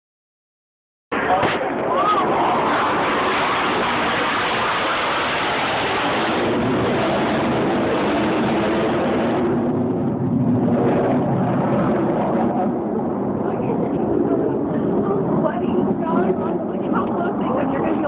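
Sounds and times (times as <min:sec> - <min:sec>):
fighter jet flying overhead: 0:01.1 - 0:18.0.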